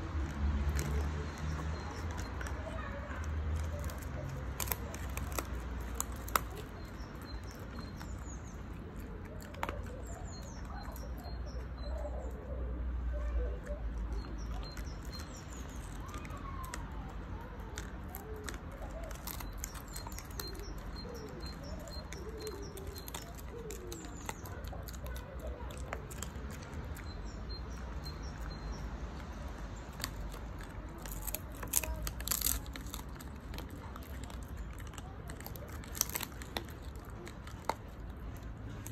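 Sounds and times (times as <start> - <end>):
puppy chewing crunchy bone: 0.0 - 12.4, 13.4 - 38.9
birds chirping: 0.0 - 38.9.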